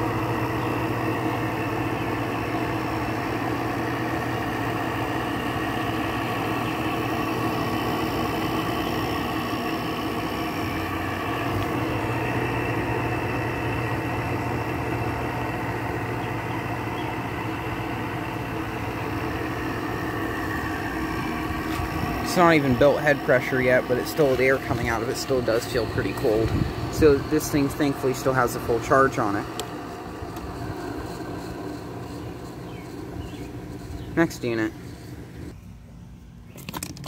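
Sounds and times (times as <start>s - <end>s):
air conditioner humming: 0.0s - 36.6s.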